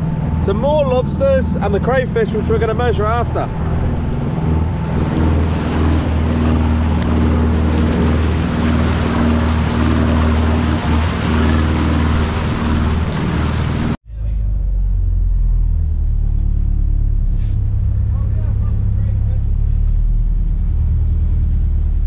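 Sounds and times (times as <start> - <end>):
boat engine running: 0.0 - 22.0
churning wake water: 0.0 - 22.0
wind: 0.0 - 22.0.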